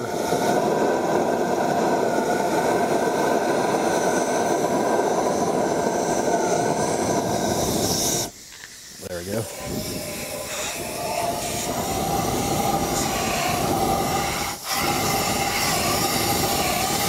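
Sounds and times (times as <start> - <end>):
compressed air rushing: 0.0 - 17.0.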